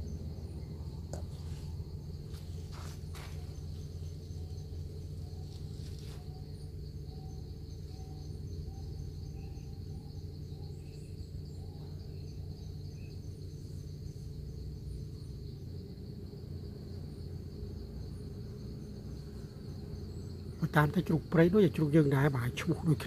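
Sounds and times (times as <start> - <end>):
insects droning: 0.0 - 23.0
low background rumble: 0.0 - 23.0.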